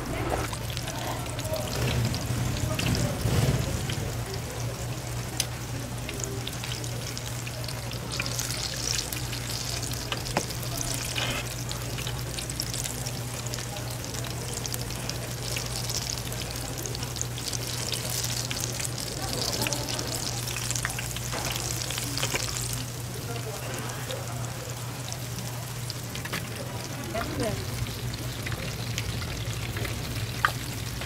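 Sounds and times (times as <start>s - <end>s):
food deep-frying in hot oil: 0.0s - 31.0s.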